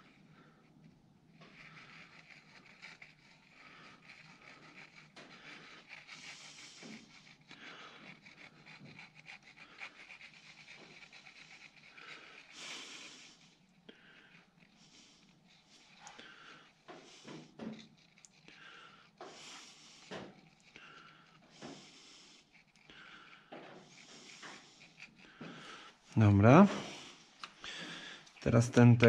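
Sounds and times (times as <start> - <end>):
heavy breathing: 3.3 - 29.0.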